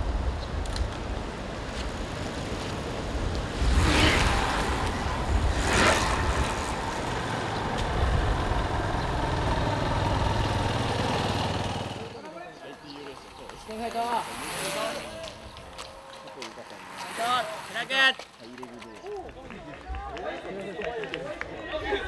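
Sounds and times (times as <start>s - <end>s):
bicycles whooshing past: 0.0s - 12.2s, 13.0s - 18.8s.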